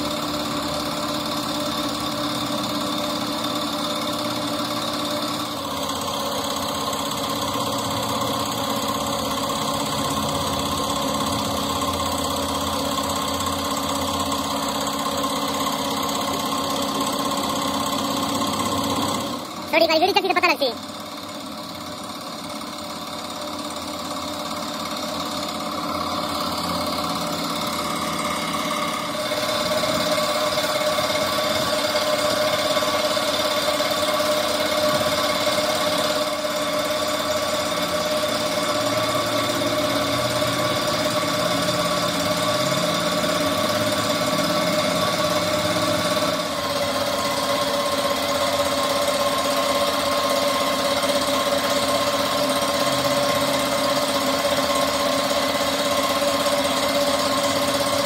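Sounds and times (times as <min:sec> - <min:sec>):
machinery running: 0:00.0 - 0:58.0.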